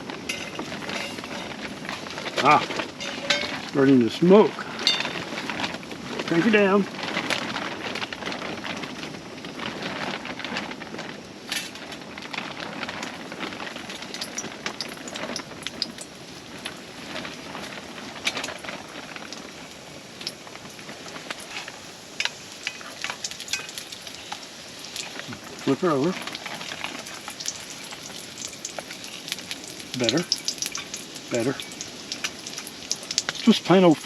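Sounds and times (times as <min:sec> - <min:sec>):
biscuits frying in hot oil: 0:00.0 - 0:34.0.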